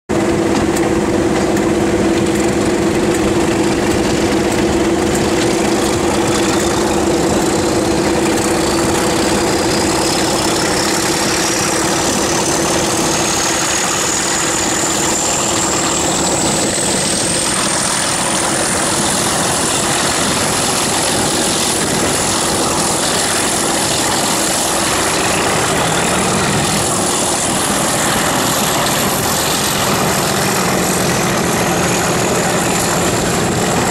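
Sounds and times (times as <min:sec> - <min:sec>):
diesel locomotive engines with whine: 0:00.1 - 0:33.9
rush of wheels and wind: 0:00.1 - 0:33.9.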